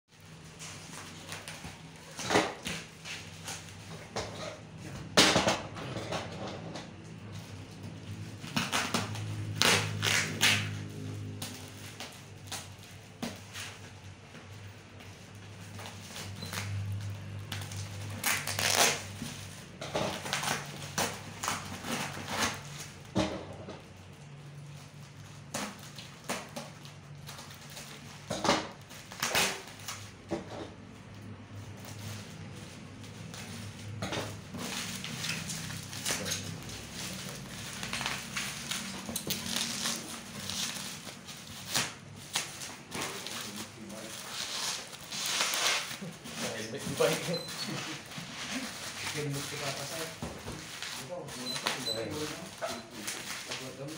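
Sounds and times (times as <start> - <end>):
plastic wrapping crinkling and ripping: 0.1 - 4.8, 7.1 - 23.2, 23.8 - 53.9.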